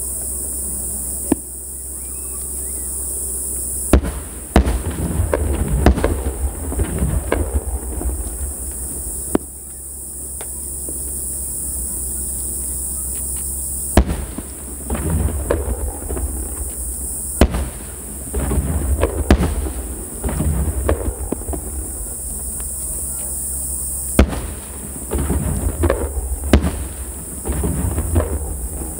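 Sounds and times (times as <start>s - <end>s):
firework bangs: 0.0s - 28.9s
crackling firework pops: 1.2s - 2.9s, 3.5s - 28.9s.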